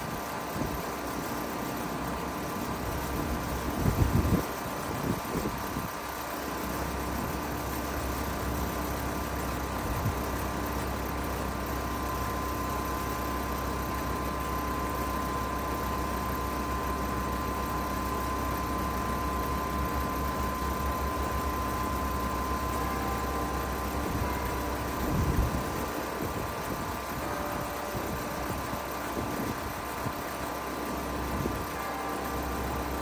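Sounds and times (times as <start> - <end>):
compressor hum: 0.0 - 33.0
outdoor fan noise: 0.0 - 33.0
steady whine: 0.0 - 33.0.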